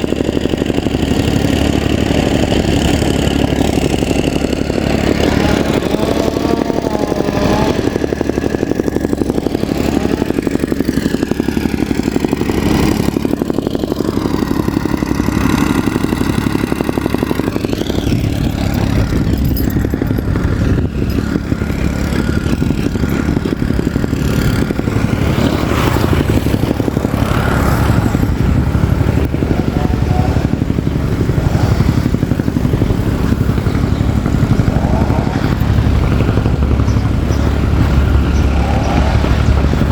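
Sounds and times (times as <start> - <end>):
rapid even rattle: 0.0 - 39.9
soil compactor engine running: 0.0 - 39.9.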